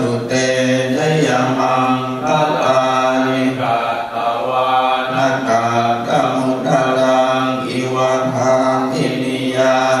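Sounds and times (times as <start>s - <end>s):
voices chanting in a drone: 0.0s - 10.0s.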